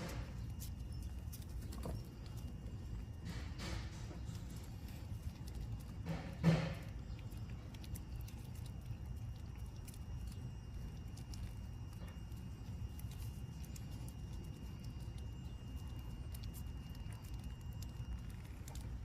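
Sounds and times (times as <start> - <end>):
cat tongue clicking and smacking: 0.0 - 19.0.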